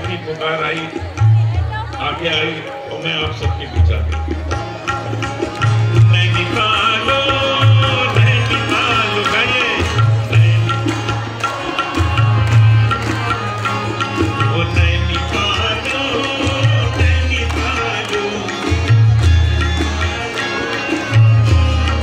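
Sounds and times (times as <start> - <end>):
tabla with booming bass strokes: 0.9 - 2.6, 3.2 - 22.0.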